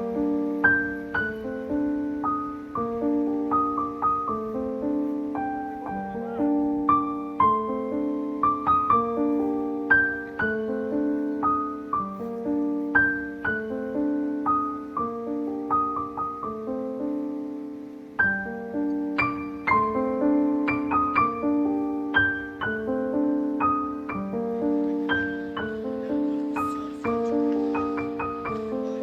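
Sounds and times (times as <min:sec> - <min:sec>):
soft solo piano melody: 0:00.0 - 0:29.0.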